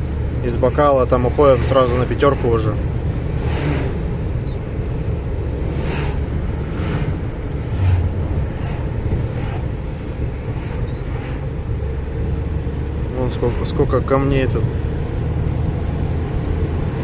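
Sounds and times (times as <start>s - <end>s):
engine and road drone: 0.0s - 17.0s.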